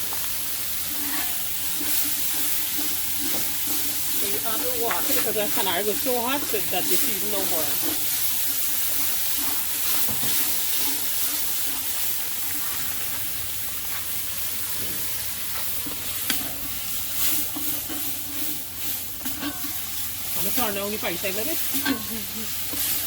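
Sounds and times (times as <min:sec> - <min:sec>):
seasoning sizzling in hot oil: 0:00.0 - 0:23.0.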